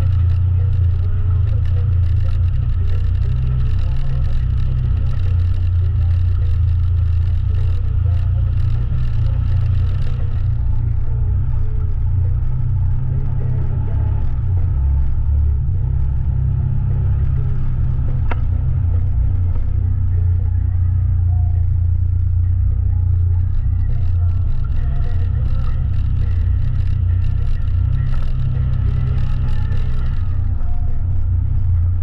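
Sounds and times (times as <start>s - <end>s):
utility vehicle engine running: 0.0s - 32.0s.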